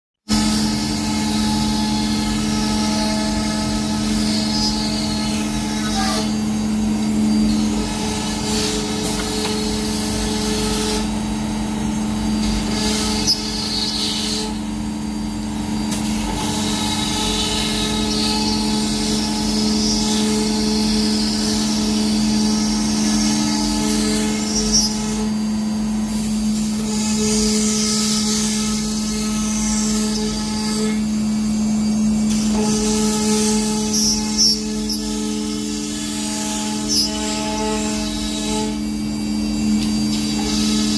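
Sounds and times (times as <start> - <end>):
router whining: 0.3 - 40.9.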